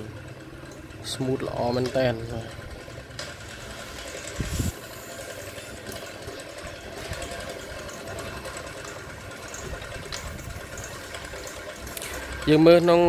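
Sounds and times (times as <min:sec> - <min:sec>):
belt and pulleys whirring: 0:00.0 - 0:13.0.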